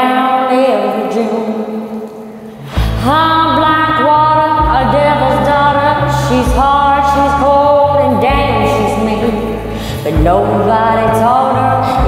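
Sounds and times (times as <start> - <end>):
karaoke backing track: 0.0 - 12.0.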